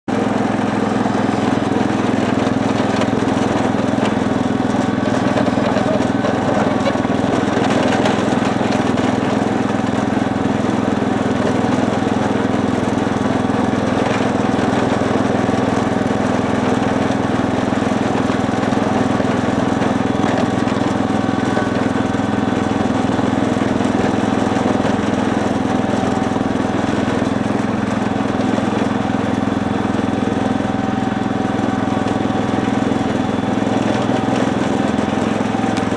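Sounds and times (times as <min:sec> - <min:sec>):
garden tractor engine running: 0:00.1 - 0:35.9
blade pushing snow: 0:00.2 - 0:35.9.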